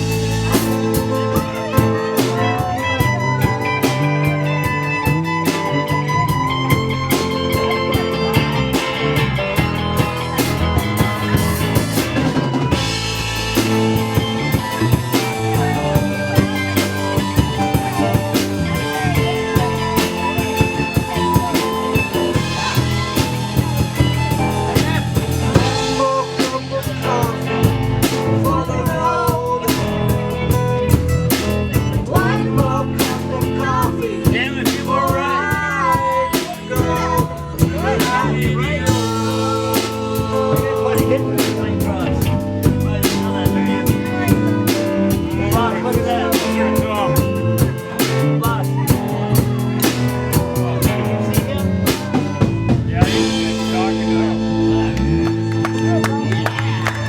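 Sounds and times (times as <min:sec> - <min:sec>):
drum kit rimshots: 0:00.0 - 0:57.0
live blues band playing: 0:00.0 - 0:57.0.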